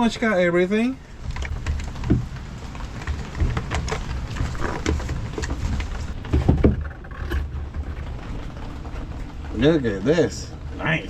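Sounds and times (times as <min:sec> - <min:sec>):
handling clicks and knocks: 0:01.0 - 0:11.0.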